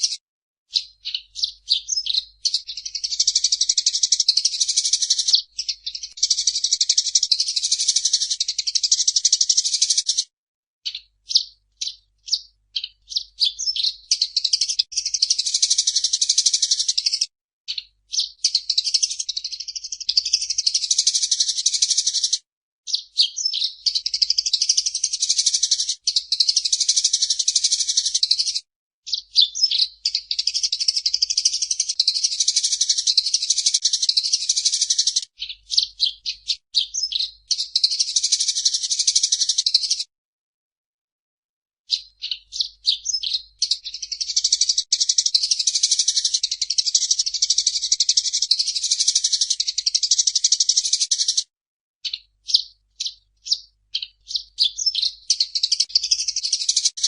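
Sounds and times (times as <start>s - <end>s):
sparrow chirping: 0.0s - 40.1s, 41.9s - 57.0s.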